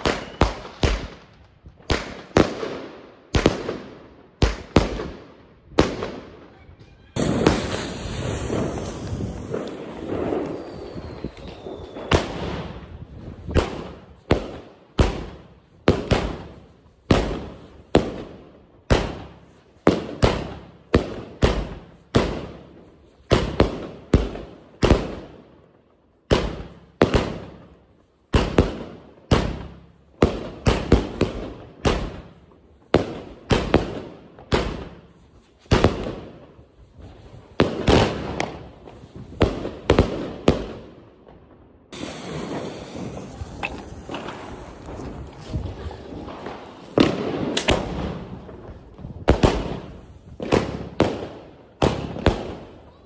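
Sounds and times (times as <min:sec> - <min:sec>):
firework bangs with echo: 0:00.0 - 0:06.5, 0:07.1 - 0:25.3, 0:26.3 - 0:27.7, 0:28.3 - 0:36.4, 0:37.5 - 0:41.0, 0:41.9 - 0:53.0.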